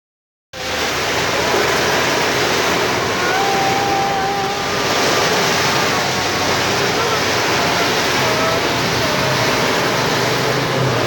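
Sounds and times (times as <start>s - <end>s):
heavy rain pouring: 0.6s - 11.0s.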